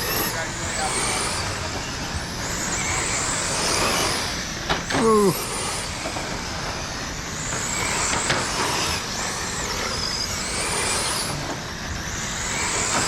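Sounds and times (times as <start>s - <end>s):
rc car motors whining: 0.0s - 13.0s.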